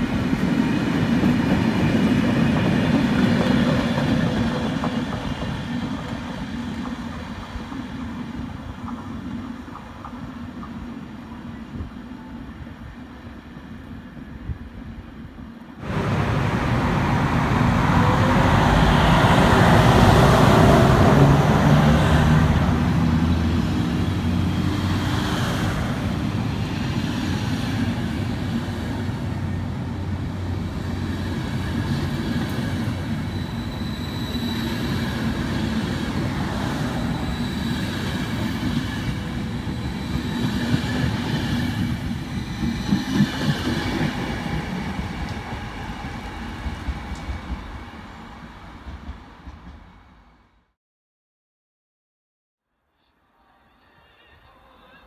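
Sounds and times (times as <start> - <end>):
wheels rumbling on rail: 0.0 - 11.1, 15.8 - 50.5
train passing: 0.0 - 50.6.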